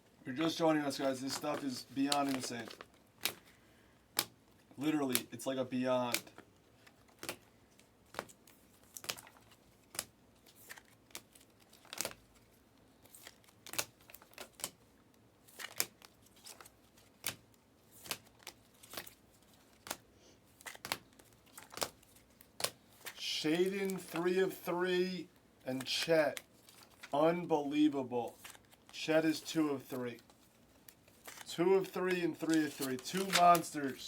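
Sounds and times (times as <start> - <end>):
trading cards clicking and rustling: 0.4 - 14.8, 15.5 - 24.7, 25.7 - 27.2, 28.2 - 34.0.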